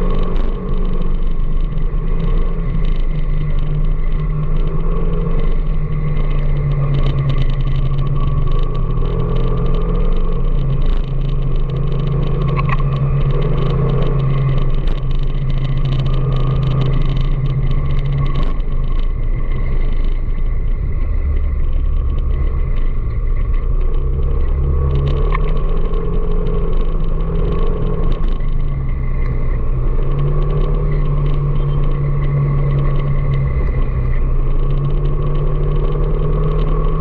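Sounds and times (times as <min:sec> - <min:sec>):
road noise: 0:00.0 - 0:37.0
vehicle engine hum: 0:00.0 - 0:37.0.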